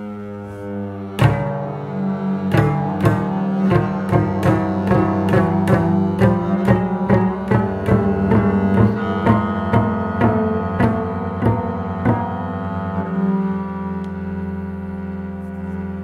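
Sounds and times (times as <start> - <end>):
bowed double bass: 0.0 - 16.0
plucked double bass: 0.6 - 16.0.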